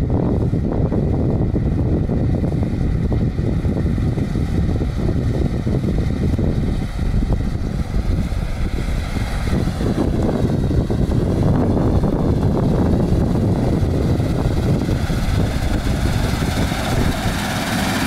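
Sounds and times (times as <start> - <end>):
combine harvester droning: 0.0 - 18.0
wind rumble on microphone: 0.0 - 18.0.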